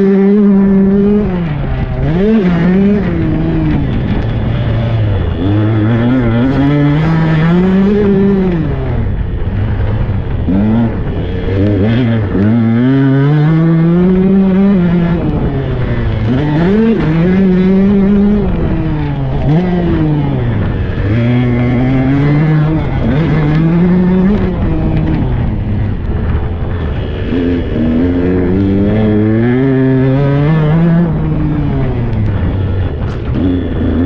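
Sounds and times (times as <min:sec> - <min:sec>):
two-stroke dirt bike engine: 0:00.0 - 0:34.0.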